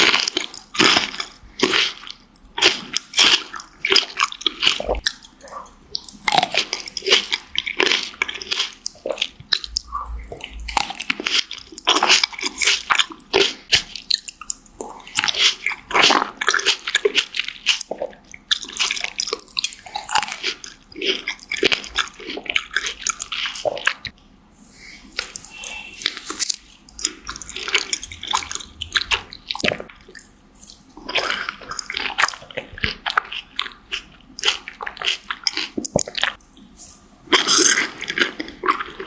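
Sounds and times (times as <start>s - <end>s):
person chewing crunchy fruit: 0.0s - 39.0s.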